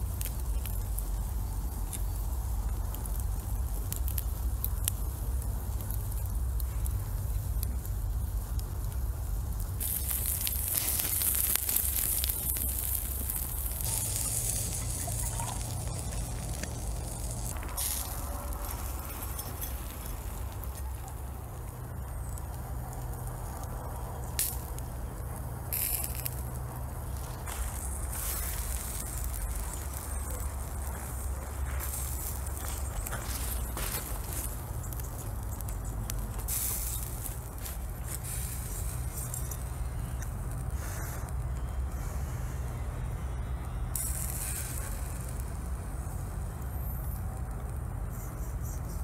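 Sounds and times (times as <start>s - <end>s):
fire crackling: 0.0s - 49.0s
loud hissing sizzle: 0.0s - 49.0s.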